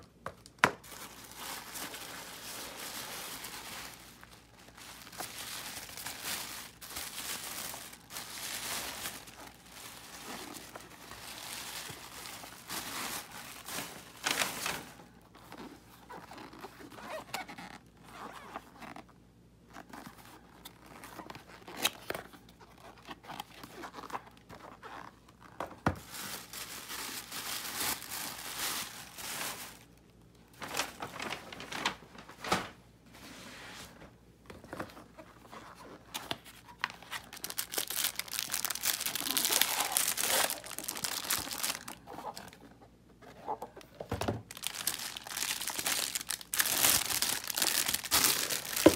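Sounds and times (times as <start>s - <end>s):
packing paper crinkling: 0.0s - 17.8s, 19.8s - 32.8s, 34.6s - 42.7s, 44.4s - 48.9s.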